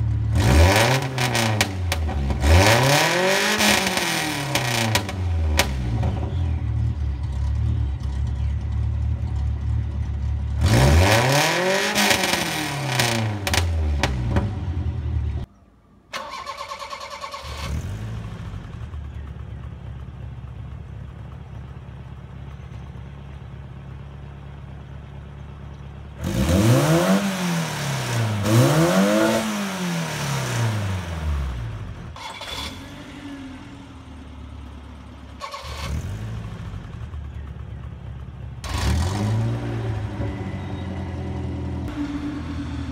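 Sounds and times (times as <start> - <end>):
car engine idling and revving: 0.0 - 15.5, 16.2 - 42.9.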